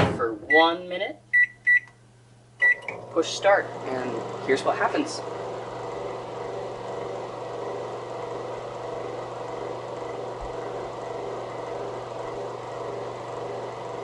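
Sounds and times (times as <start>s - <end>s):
microwave oven humming: 0.6s - 14.0s.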